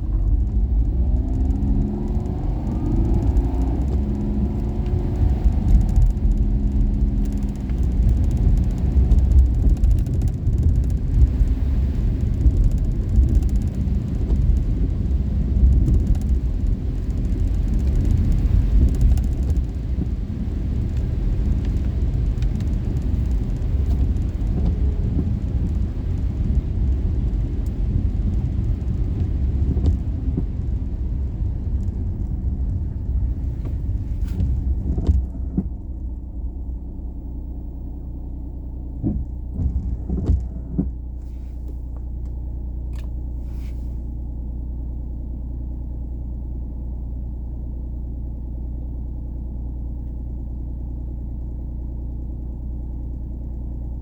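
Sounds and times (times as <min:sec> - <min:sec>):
road noise: 0:00.0 - 0:47.6
car engine rumble: 0:00.0 - 0:54.0.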